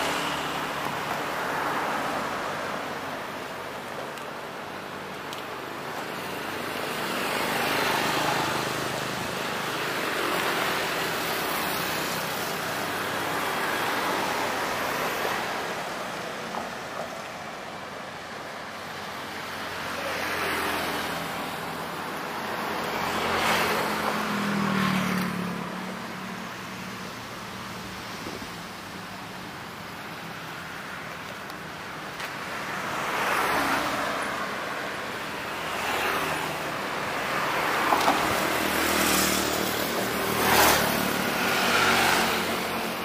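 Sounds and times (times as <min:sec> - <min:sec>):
cars passing: 0:00.0 - 0:43.0.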